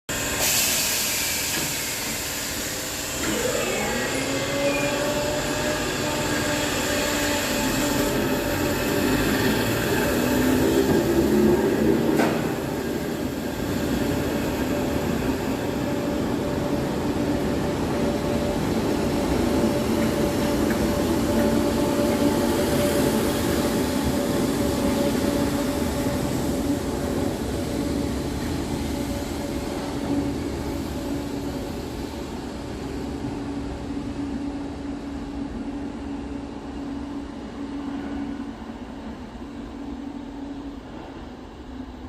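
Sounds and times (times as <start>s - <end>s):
train wheels rumbling on track: 0.1s - 42.0s.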